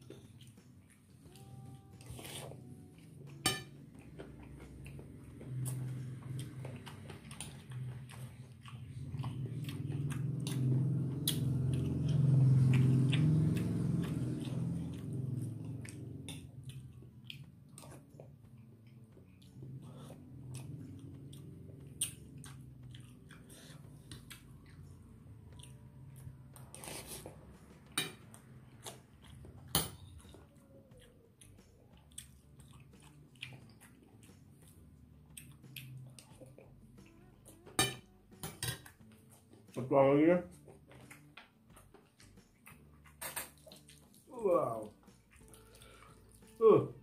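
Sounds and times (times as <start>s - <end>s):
close-up chewing: 0.0s - 37.6s, 40.5s - 47.0s.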